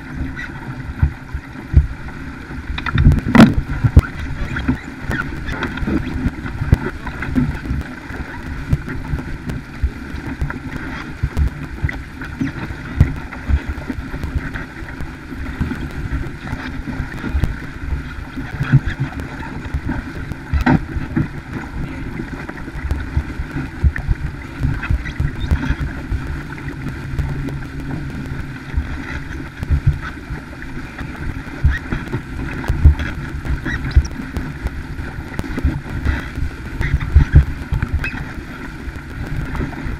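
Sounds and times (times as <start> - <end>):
water rushing along a hull: 0.0 - 39.9
wind buffeting microphone: 0.0 - 39.9.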